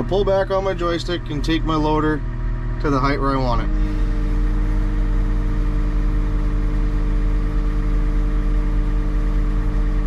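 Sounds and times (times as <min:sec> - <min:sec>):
diesel engine under hydraulic load: 0:00.0 - 0:10.0.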